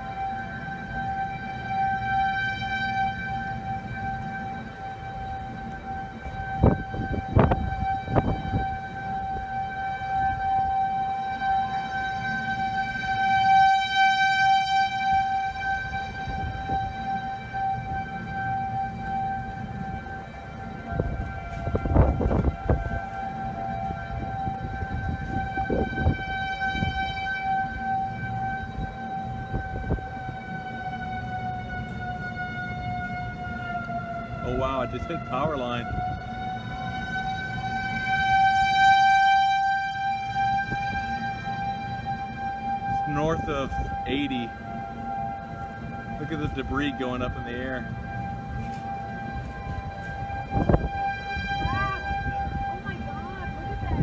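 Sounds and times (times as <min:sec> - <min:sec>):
warning siren steady tone: 0:00.0 - 0:54.0
wind buffeting microphone: 0:02.9 - 0:13.8, 0:14.5 - 0:54.0.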